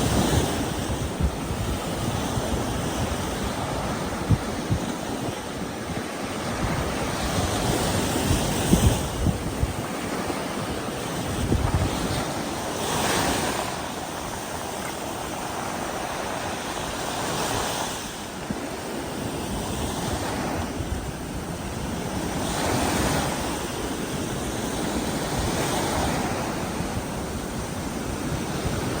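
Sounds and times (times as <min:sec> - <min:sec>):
ocean surf breaking on beach: 0:00.0 - 0:29.0.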